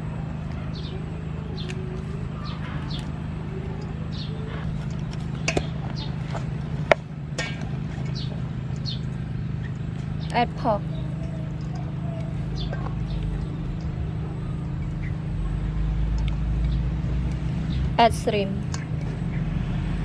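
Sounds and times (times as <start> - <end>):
steady low hum: 0.0 - 20.0
small birds chirping: 0.3 - 20.0.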